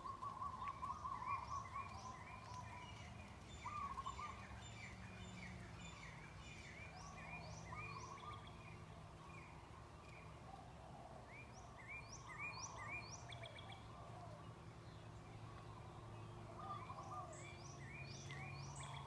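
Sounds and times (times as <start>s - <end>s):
birds chirping and whistling: 0.0s - 9.6s, 11.4s - 13.9s, 14.9s - 19.0s.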